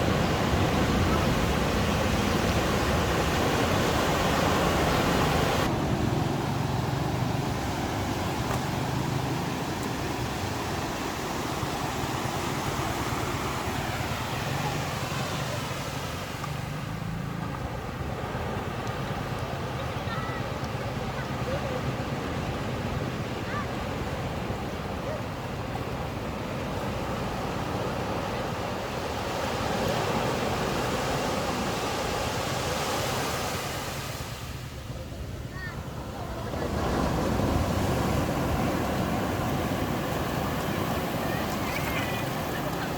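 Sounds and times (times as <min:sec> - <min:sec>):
ocean waves on a beach: 0:00.0 - 0:42.9.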